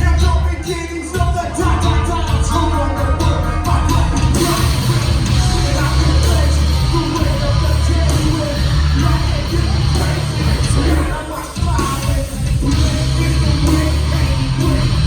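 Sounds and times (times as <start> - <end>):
cymbals: 0.0 - 15.0
live rock band playing: 0.0 - 15.0
vocalist singing: 0.0 - 15.0.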